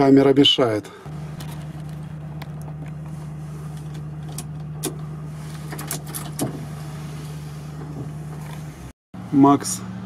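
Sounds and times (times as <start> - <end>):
engine idling inside cab: 0.6 - 10.0.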